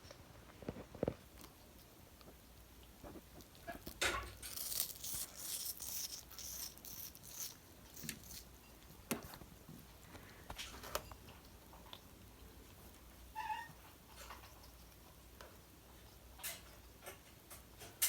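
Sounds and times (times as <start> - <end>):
parrot beak crunching food: 0.0 - 18.0.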